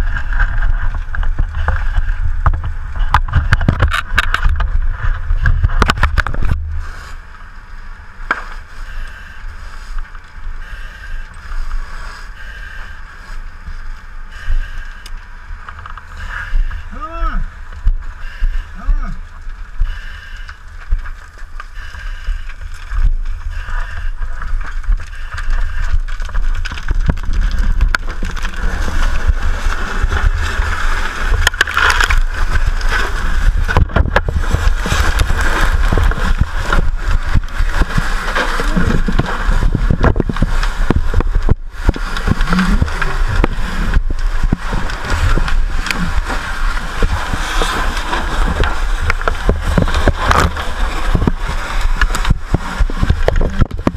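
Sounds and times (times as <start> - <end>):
knocks and rumbling handling noise: 0.0 - 53.9.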